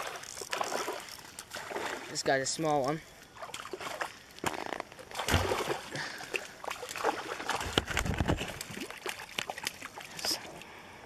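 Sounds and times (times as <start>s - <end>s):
fish thrashing: 0.0s - 2.1s, 3.2s - 10.6s
water splashing and sloshing: 0.0s - 11.0s.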